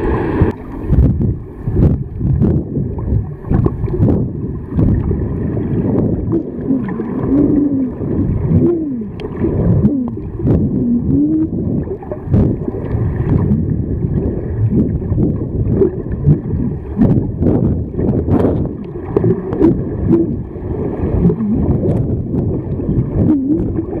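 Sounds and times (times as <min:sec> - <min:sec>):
underwater rumble and bubbles: 0:00.0 - 0:24.0.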